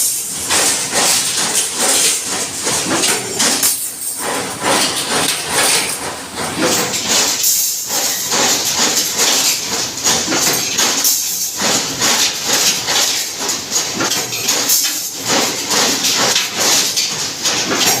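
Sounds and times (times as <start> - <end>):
machine hissing in rhythmic pulses: 0.0 - 18.0.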